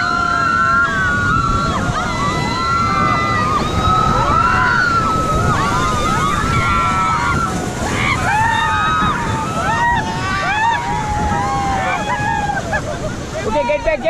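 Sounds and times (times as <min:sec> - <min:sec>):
people shouting and screaming: 0:00.0 - 0:14.0
river rapids rushing: 0:00.0 - 0:14.0.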